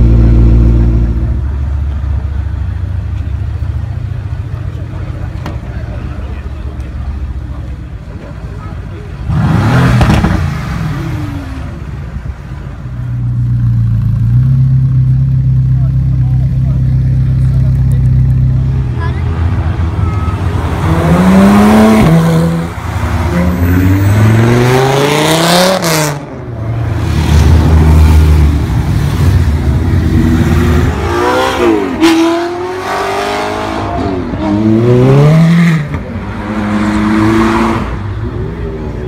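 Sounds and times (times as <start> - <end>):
sports car engines accelerating: 0.0 - 39.0.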